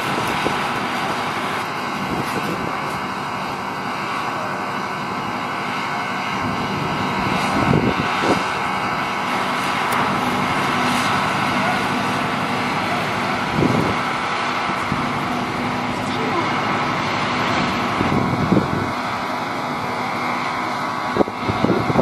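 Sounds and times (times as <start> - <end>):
diesel engines droning: 0.0 - 22.0
faint steady whine: 0.0 - 22.0.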